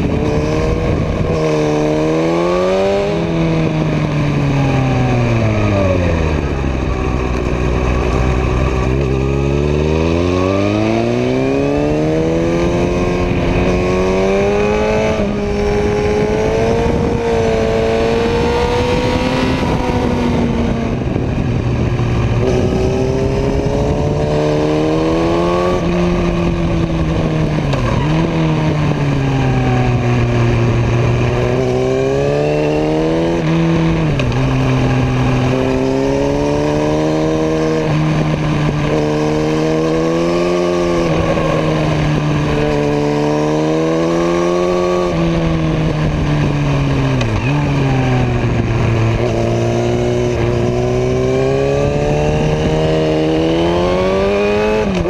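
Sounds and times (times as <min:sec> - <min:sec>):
motorcycle engine revving: 0:00.0 - 0:55.0
steady rushing noise: 0:00.0 - 0:55.0.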